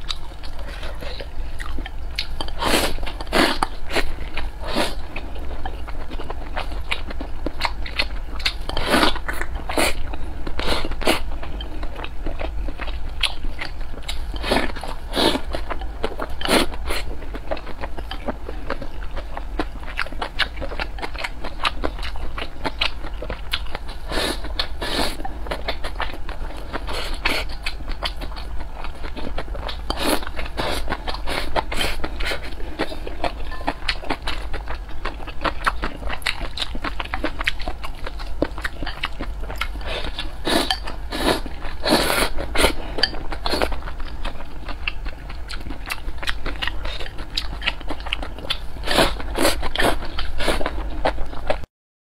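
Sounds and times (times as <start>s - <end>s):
person chewing food: 0.0s - 51.7s.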